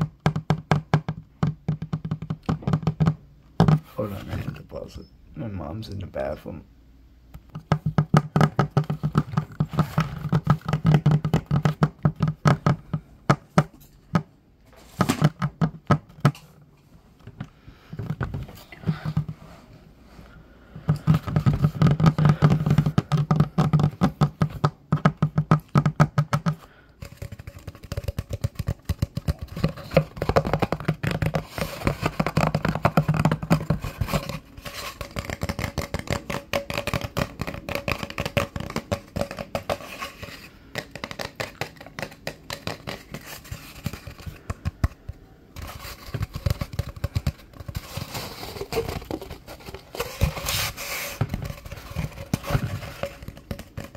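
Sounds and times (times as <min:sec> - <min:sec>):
fingers tapping on cardboard tube: 0:00.0 - 0:03.9, 0:07.5 - 0:14.3, 0:15.0 - 0:16.4, 0:17.4 - 0:19.4, 0:20.8 - 0:53.9.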